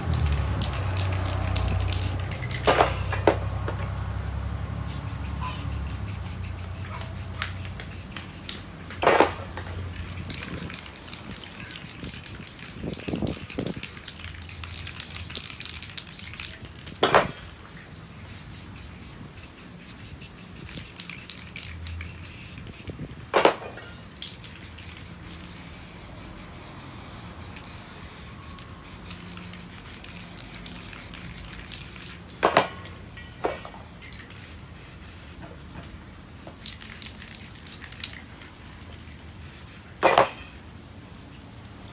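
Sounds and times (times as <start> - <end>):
spray paint can hissing: 0.0 - 3.1, 4.8 - 17.4, 18.2 - 23.1, 24.2 - 32.7, 34.0 - 35.4, 36.4 - 40.4.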